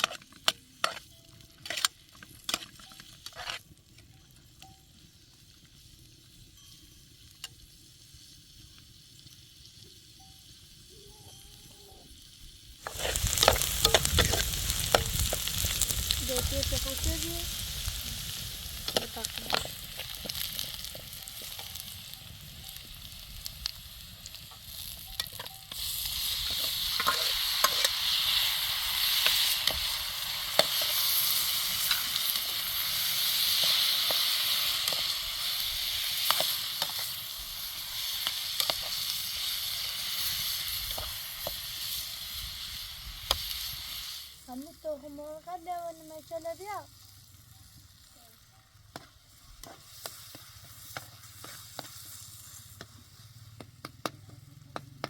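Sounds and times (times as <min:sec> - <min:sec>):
sizzling hiss: 0:00.0 - 0:55.0.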